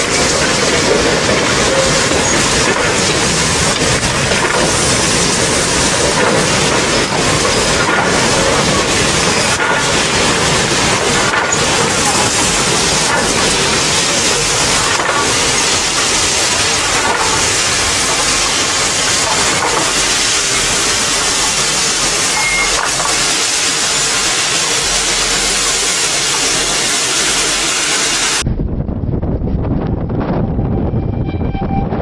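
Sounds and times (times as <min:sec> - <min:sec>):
steam locomotive hissing: 0:00.0 - 0:28.4.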